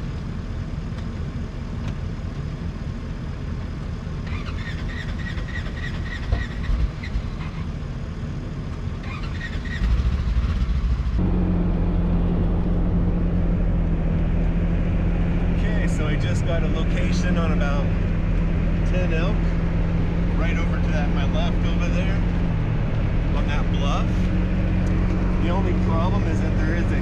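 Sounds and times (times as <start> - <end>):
engine idling: 0.0 - 27.0
vehicle driving drone from cab: 0.0 - 27.0.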